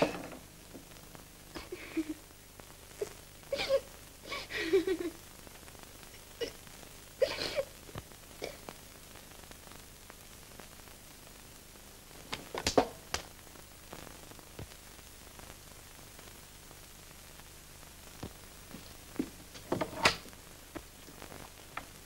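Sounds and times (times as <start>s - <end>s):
film soundtrack hiss: 0.0s - 22.0s.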